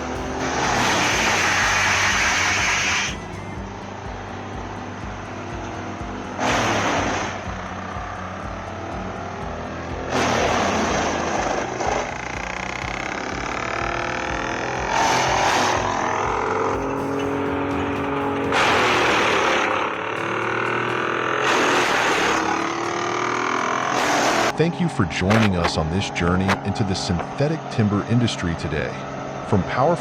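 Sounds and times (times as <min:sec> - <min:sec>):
background music with steady beat: 0:00.0 - 0:26.6
heavy machinery running: 0:00.0 - 0:30.0.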